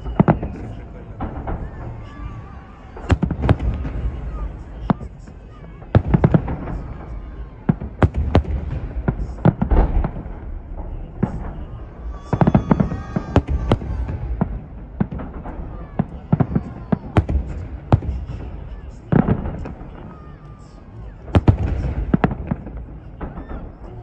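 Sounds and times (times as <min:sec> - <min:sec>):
fireworks bangs: 0:00.0 - 0:24.0
people's voices: 0:00.0 - 0:24.0.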